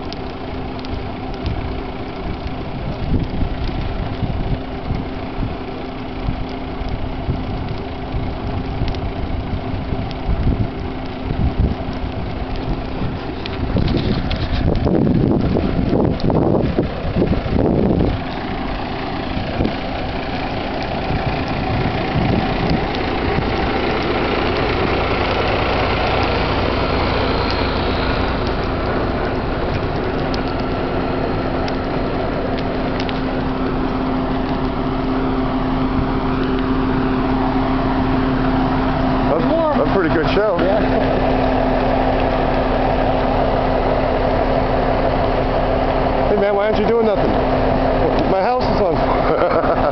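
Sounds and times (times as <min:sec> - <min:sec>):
engine idling: 0:00.0 - 0:49.9
large fire crackling: 0:00.0 - 0:49.9.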